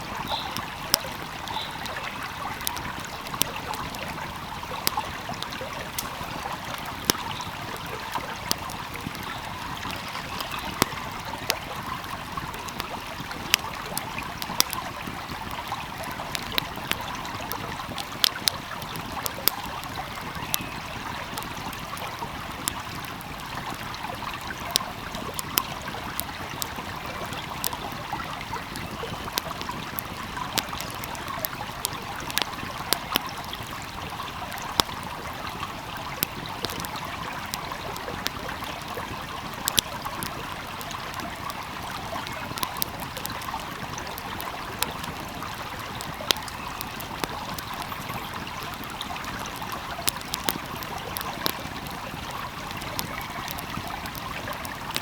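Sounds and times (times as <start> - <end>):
stream flowing: 0.0 - 55.0
wood fire crackling and popping: 0.0 - 55.0.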